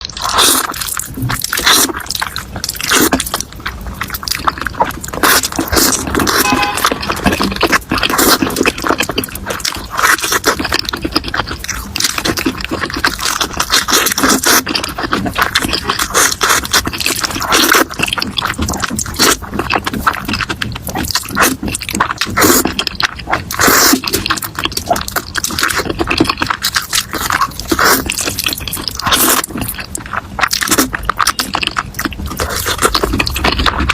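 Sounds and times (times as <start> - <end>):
chewing and slurping noodles: 0.0 - 33.9.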